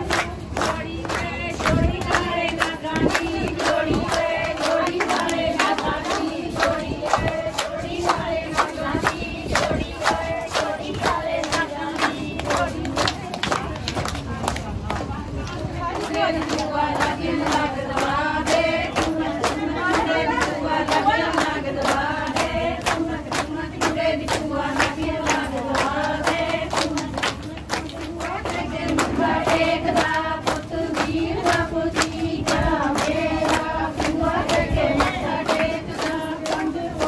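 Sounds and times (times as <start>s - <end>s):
hands clapping a steady beat: 0.0s - 37.0s
women singing a folk song: 0.0s - 37.0s.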